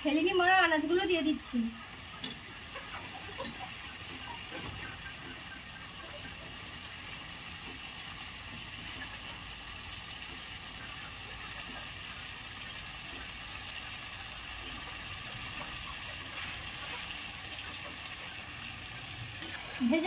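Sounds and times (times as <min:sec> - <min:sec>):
vegetables sizzling and bubbling: 0:00.0 - 0:20.0.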